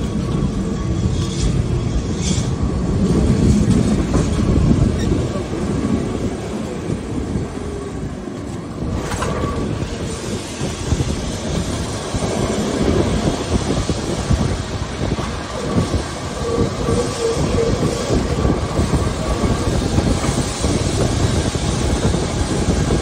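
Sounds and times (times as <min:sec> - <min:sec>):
tram rumbling and rattling: 0:00.0 - 0:23.0
tram wheel squeal: 0:00.0 - 0:23.0.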